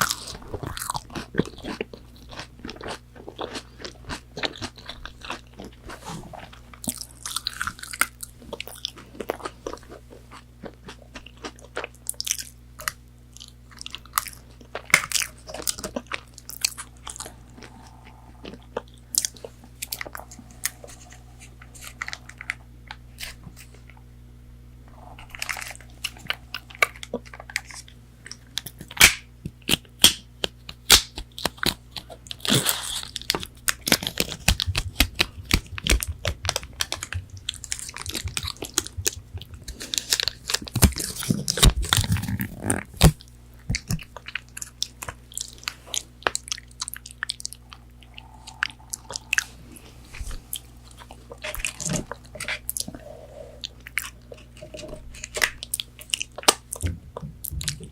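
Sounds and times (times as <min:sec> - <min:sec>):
crunchy chewing: 0:00.0 - 0:24.1, 0:24.9 - 0:57.9
faint low hum: 0:00.0 - 0:57.9.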